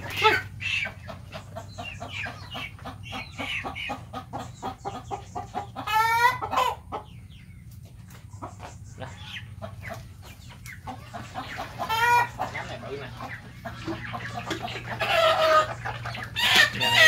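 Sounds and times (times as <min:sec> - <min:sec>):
chicken squawk: 0:00.0 - 0:07.3, 0:08.3 - 0:17.0
chickens clucking: 0:00.0 - 0:17.0.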